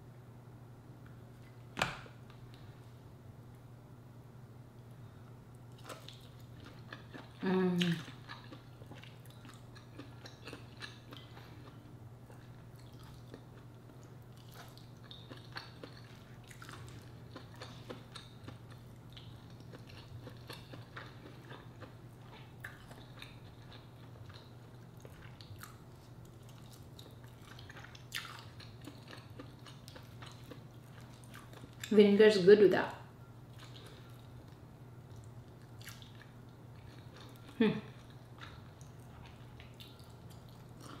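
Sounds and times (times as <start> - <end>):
steady low hum: 0.0 - 41.0
chewing and wet mouth sounds: 5.5 - 32.0, 33.5 - 41.0.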